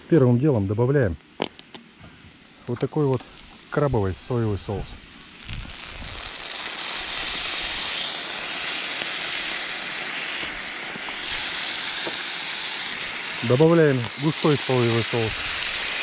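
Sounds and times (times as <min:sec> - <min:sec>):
sauce sizzling on hot metal: 0:01.4 - 0:16.0.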